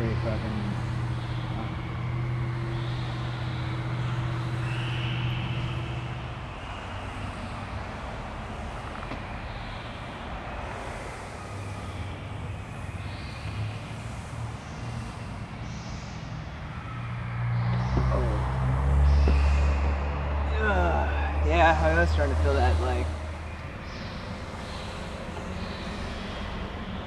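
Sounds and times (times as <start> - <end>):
car engine hum: 0.0 - 27.0
road noise: 0.0 - 27.0.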